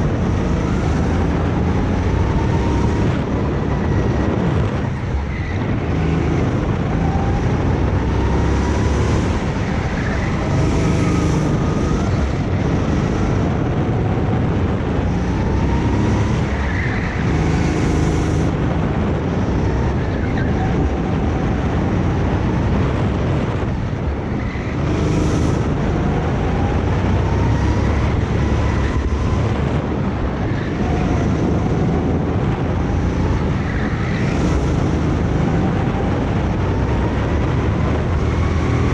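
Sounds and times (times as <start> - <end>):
go-kart engine accelerating: 0.0 - 38.9
wind noise on microphone: 0.0 - 38.9.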